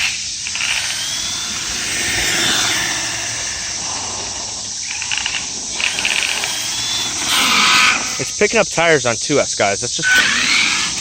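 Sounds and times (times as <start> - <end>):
crickets chirping: 0.0 - 11.0
electric motor whine: 0.0 - 11.0
steady insect hiss: 0.0 - 11.0.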